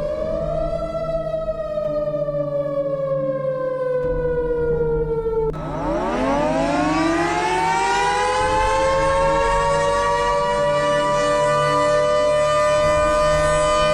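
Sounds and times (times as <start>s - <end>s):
warning siren wailing: 0.0s - 13.9s.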